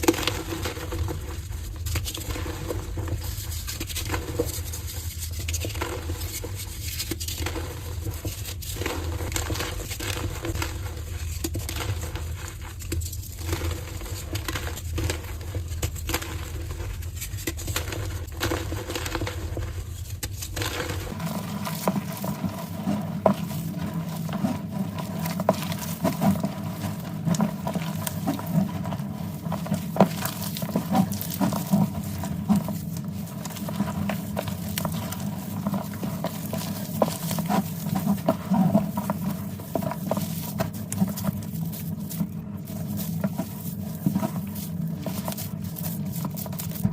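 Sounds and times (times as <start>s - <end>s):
chalk crushing and crumbling: 0.0s - 46.9s.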